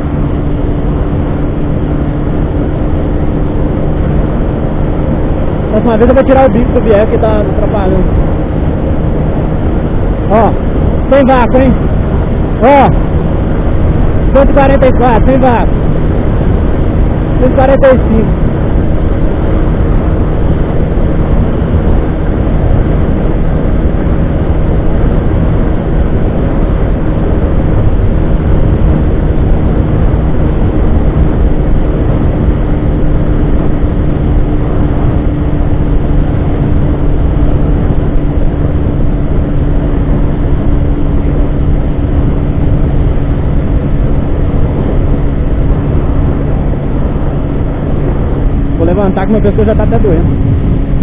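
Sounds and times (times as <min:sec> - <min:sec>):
motorcycle engine at high revs: 0:00.0 - 0:51.0
wind rush on microphone: 0:00.0 - 0:51.0.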